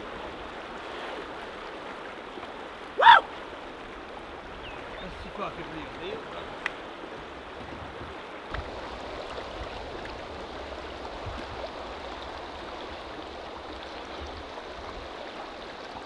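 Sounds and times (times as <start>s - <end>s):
rocky river flowing: 0.0s - 16.0s.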